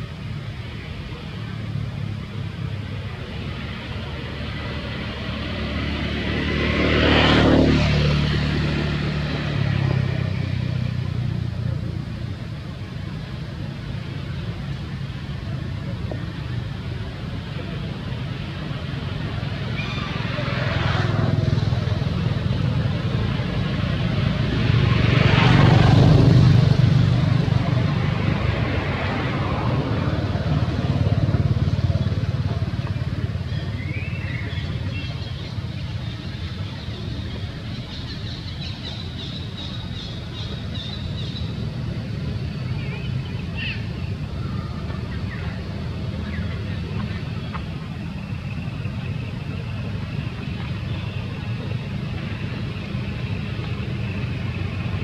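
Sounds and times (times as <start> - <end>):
engine rumbling: 0.0 - 55.0
vehicle passing by: 0.0 - 55.0.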